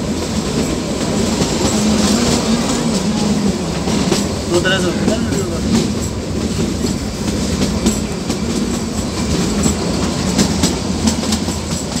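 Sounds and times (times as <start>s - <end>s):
train carriages rumbling: 0.0s - 12.0s
wheels clicking over rail joints: 0.0s - 12.0s.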